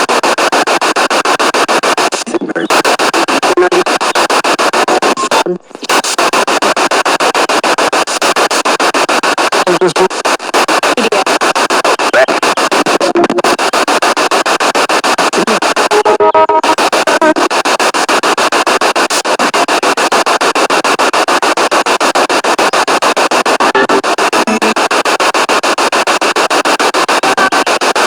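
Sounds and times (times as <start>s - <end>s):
pulsing radio static: 0.0s - 28.0s
radio tone: 0.0s - 28.0s.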